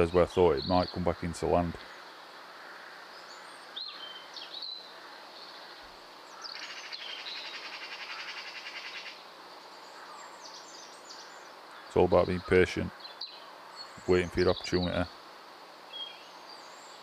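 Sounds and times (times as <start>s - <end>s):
birdsong chirps and trill: 0.0s - 17.0s.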